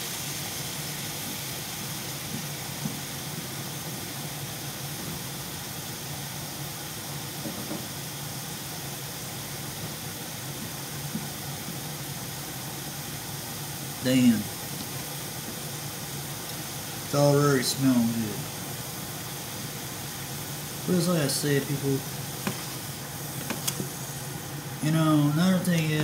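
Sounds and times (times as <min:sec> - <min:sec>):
patties sizzling in a pan: 0:00.0 - 0:26.0.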